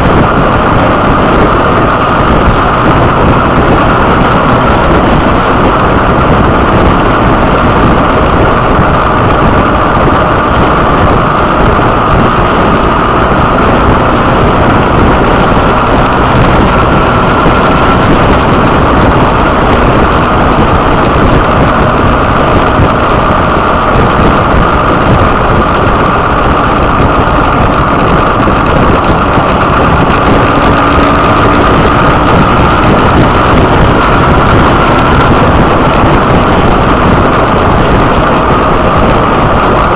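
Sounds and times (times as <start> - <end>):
motorcycle engine running: 0.0 - 39.9
wind rush over microphone: 0.0 - 39.9.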